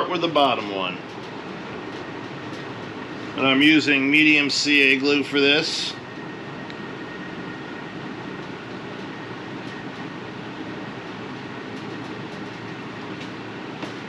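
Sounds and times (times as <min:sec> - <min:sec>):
workshop machine humming: 0:00.0 - 0:14.0.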